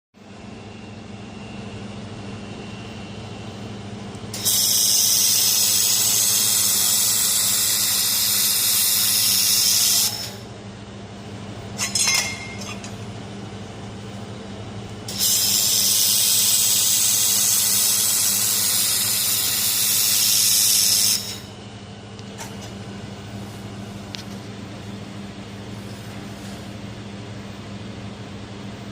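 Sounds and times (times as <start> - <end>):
steady low hum: 0.2 - 28.9.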